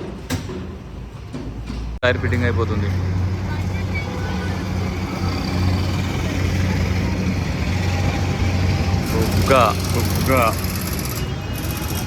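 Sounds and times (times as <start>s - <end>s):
noisy background: 0.3s - 12.0s.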